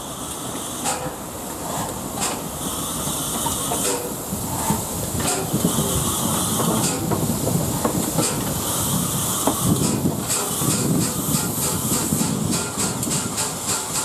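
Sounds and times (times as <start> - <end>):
steam hissing: 0.0 - 14.0
steam locomotive beat: 2.2 - 14.0.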